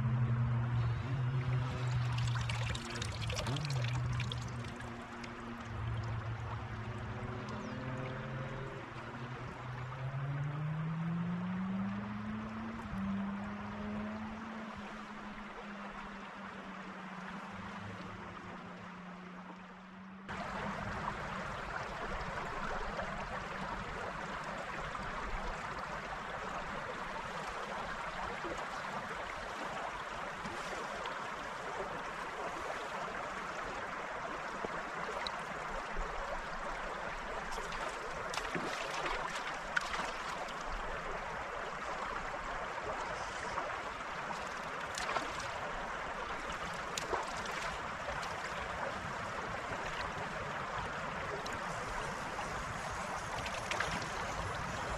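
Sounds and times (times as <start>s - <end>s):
stream water babbling: 0.0s - 54.9s.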